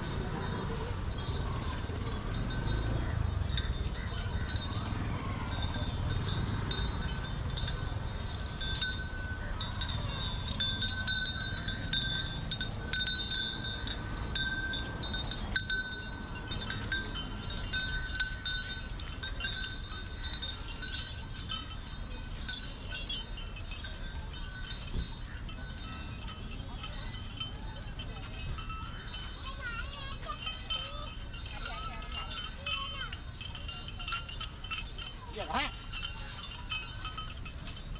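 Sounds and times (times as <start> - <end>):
street ambience: 0.0 - 37.9.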